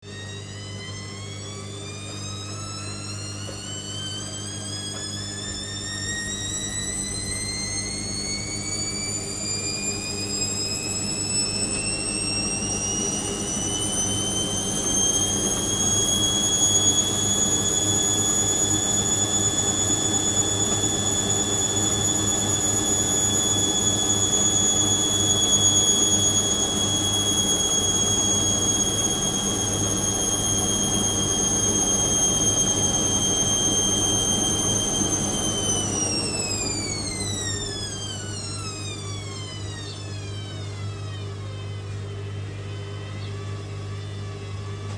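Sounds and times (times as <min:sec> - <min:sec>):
washing machine motor whine: 0:00.0 - 0:44.9.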